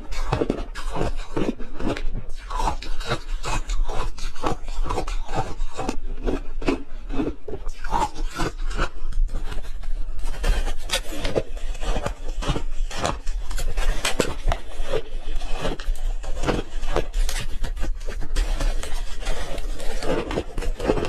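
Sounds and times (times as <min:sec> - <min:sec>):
person crunching ice: 0:00.0 - 0:21.0.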